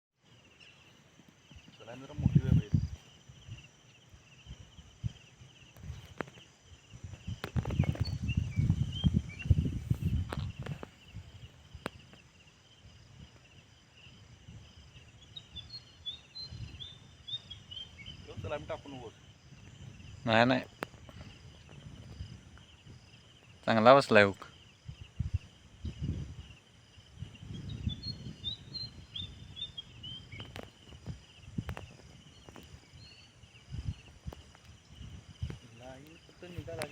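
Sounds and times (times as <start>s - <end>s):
insects chirping: 0.2s - 36.9s.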